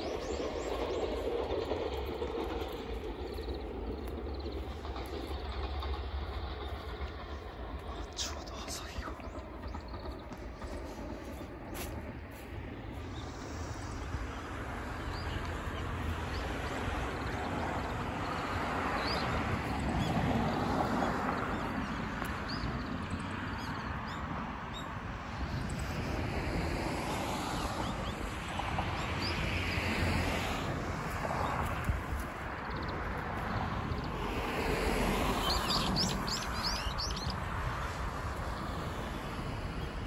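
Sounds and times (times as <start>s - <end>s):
distant road traffic: 0.0s - 40.0s
wind: 0.0s - 40.0s.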